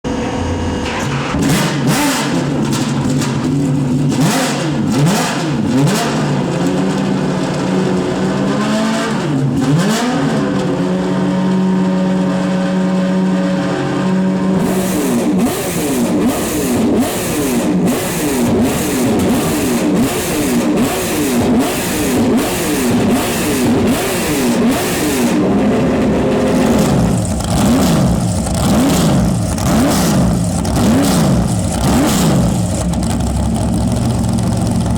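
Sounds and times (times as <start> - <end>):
racing car engines revving: 0.0 - 34.9.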